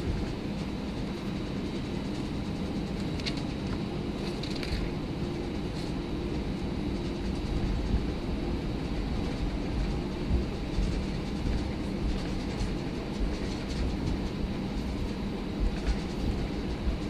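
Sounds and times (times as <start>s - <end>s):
airplane engine hum: 0.0s - 17.0s.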